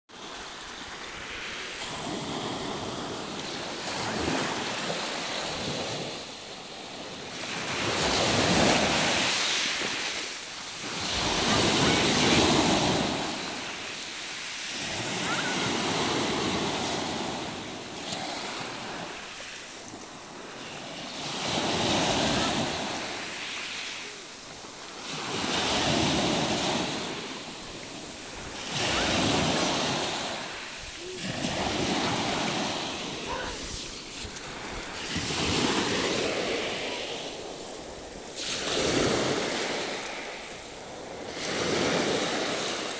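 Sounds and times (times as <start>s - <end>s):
waves washing over pebbles: 0.2s - 42.9s.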